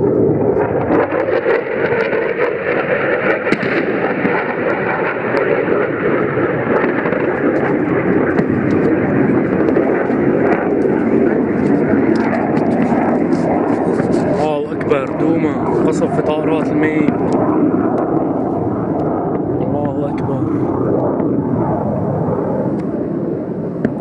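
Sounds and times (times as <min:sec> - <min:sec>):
jet aircraft flying overhead: 0:00.0 - 0:24.0.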